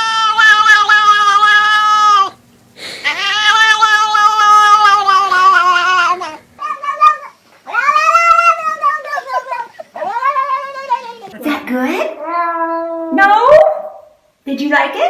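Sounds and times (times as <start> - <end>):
cat yowling: 0.0 - 11.3, 12.1 - 13.8.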